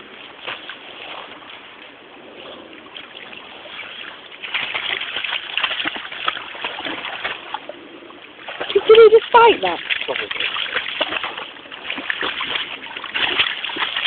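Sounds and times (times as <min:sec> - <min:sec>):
water splashing around swimming dog: 0:00.0 - 0:14.0.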